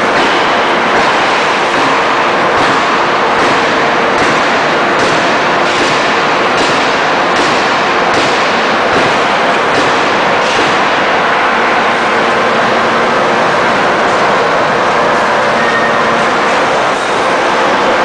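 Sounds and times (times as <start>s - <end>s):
hydraulic press running: 0.0s - 18.0s.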